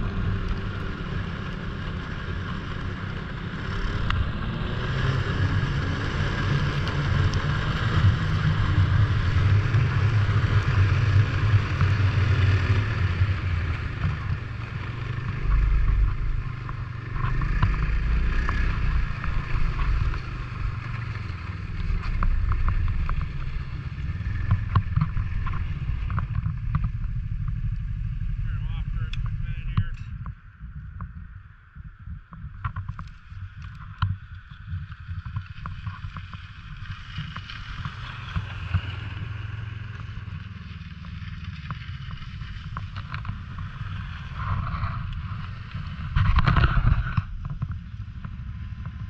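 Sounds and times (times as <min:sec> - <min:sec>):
snowmobile engine running: 0:00.0 - 0:30.2, 0:32.2 - 0:49.0.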